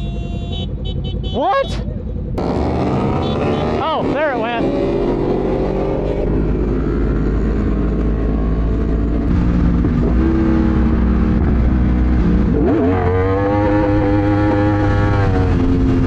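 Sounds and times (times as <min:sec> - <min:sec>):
road and wind noise: 0:00.0 - 0:16.0
sport bike engine accelerating: 0:00.5 - 0:16.0.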